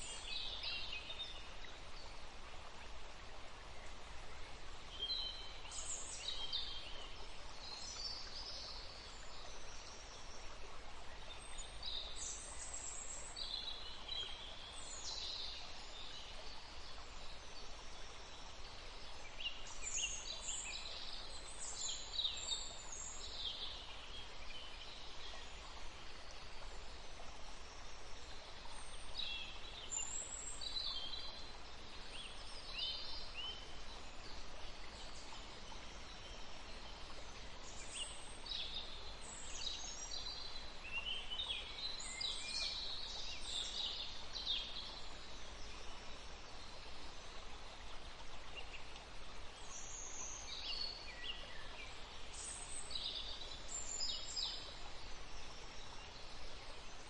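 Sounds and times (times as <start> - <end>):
soft background hiss: 0.0 - 57.0
songbirds chirping: 0.0 - 57.0.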